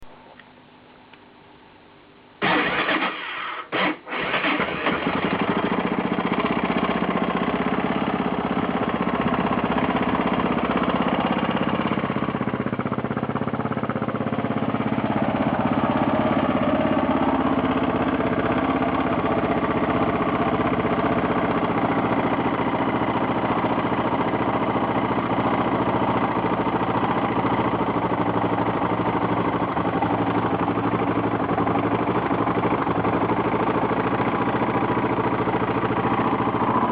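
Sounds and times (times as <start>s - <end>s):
engine knocking and clattering: 2.4s - 36.9s
motorcycle engine starting and idling: 2.4s - 36.9s.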